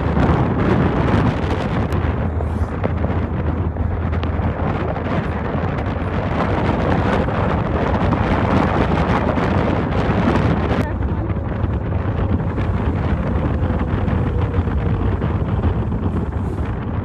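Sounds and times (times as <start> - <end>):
low engine hum: 0.0 - 17.0
vehicle road noise: 0.0 - 17.0
wind buffeting microphone: 0.0 - 17.0.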